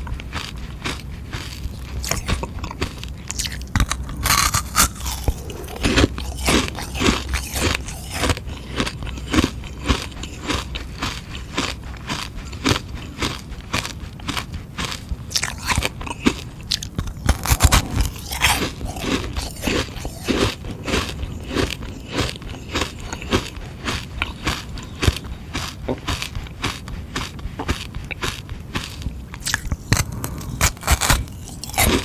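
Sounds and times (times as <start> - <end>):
crunching ice pop: 0.0 - 32.0.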